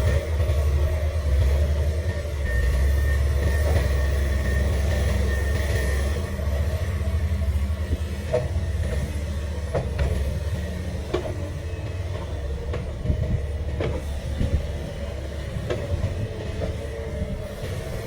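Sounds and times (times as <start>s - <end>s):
excavator diesel engine droning: 0.0s - 18.0s.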